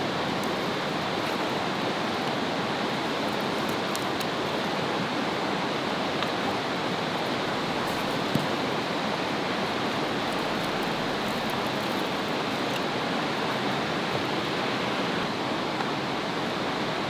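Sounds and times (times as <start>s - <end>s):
running water: 0.0s - 16.7s.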